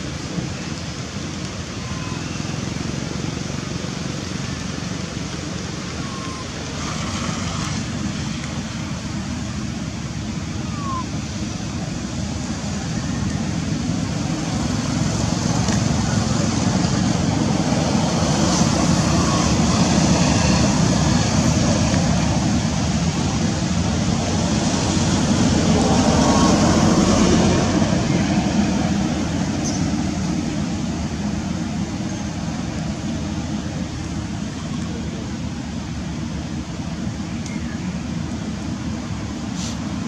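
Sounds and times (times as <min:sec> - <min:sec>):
low rumble and hiss: 0:00.0 - 0:40.0.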